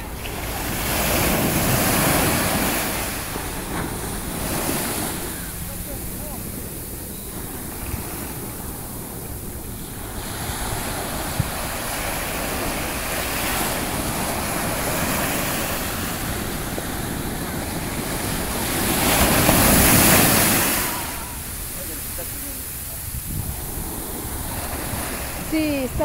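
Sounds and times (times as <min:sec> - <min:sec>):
ocean surf washing in: 0:00.0 - 0:26.0
wave breaking: 0:00.0 - 0:26.0.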